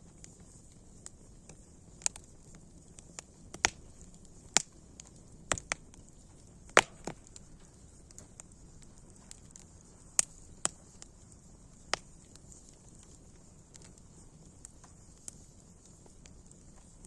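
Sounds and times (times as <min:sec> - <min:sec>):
campfire wood crackling: 0:00.0 - 0:17.0
hiss of burning fire: 0:00.0 - 0:17.0.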